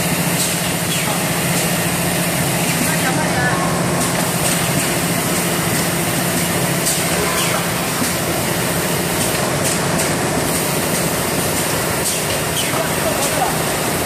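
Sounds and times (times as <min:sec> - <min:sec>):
machine conveyor and motors running: 0:00.0 - 0:14.0.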